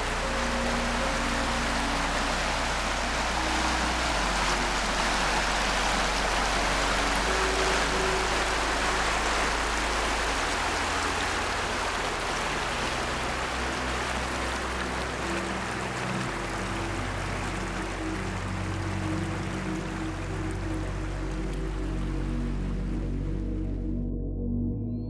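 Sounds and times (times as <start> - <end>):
stream rushing over rocks: 0.0 - 23.3
soft music with deep notes: 0.0 - 25.0.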